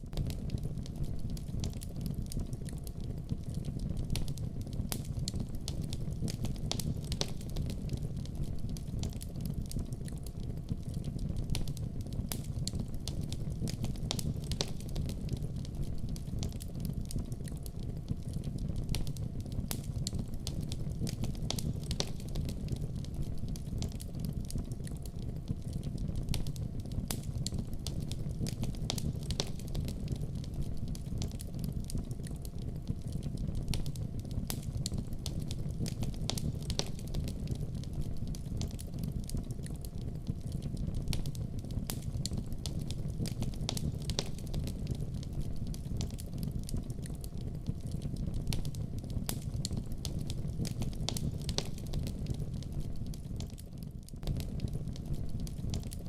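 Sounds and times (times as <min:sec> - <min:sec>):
logs crackling and popping: 0:00.0 - 0:56.0
low rumble of fire flames: 0:00.0 - 0:56.0.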